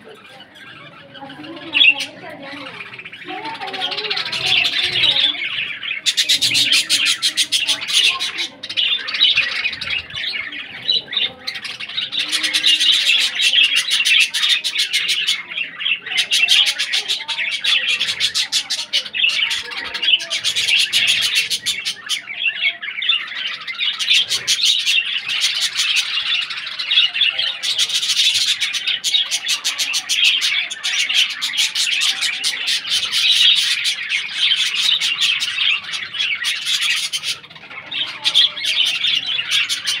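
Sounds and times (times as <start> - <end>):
parrots chattering and chirping: 0.0 - 40.0.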